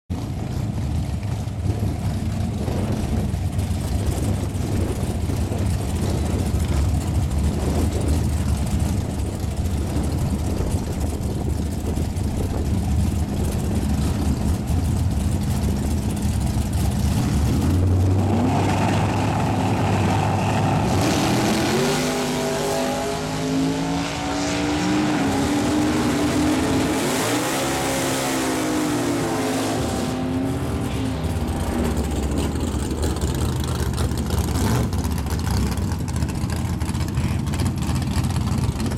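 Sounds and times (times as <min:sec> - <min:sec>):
drag racing car engine: 0:00.1 - 0:38.9.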